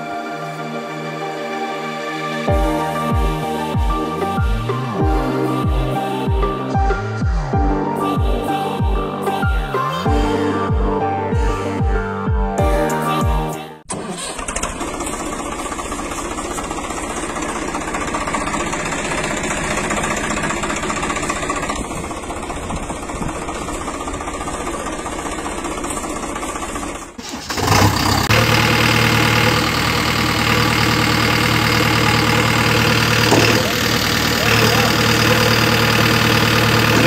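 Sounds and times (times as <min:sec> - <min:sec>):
loud engine sound: 0:00.0 - 0:11.2, 0:13.9 - 0:37.0
tractor engine running: 0:02.5 - 0:10.0, 0:13.9 - 0:37.0.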